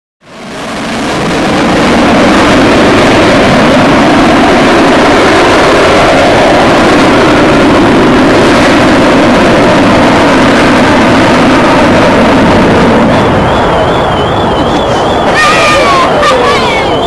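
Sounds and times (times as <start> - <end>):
jet aircraft roaring past: 0.2 - 17.0.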